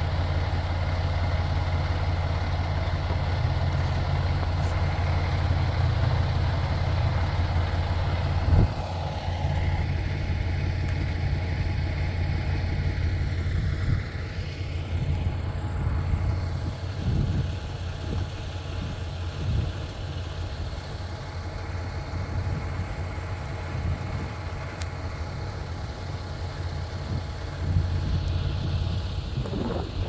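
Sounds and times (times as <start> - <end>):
low engine drone: 0.0 - 30.0
road noise inside a vehicle: 0.0 - 30.0.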